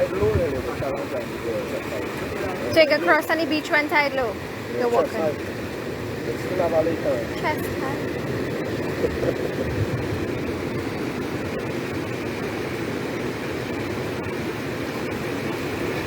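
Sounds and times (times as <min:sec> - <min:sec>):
rushing floodwater roar: 0:00.0 - 0:16.0.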